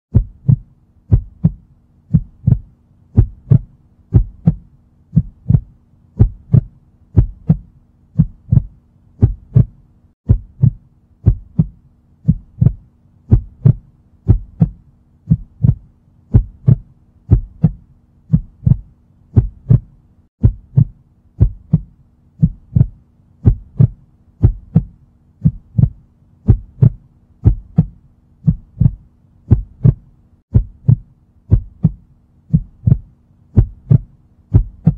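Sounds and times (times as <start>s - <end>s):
faint low hum: 0.1s - 34.9s
heartbeat thumps: 0.1s - 34.9s.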